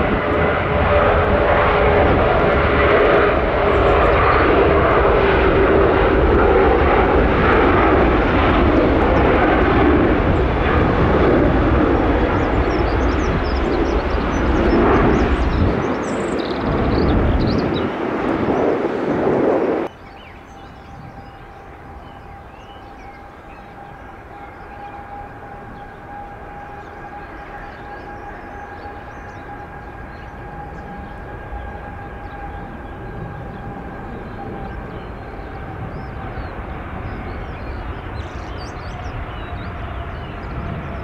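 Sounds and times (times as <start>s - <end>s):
jet engines whining at takeoff: 0.0s - 41.0s
loud jet departure: 0.0s - 41.0s.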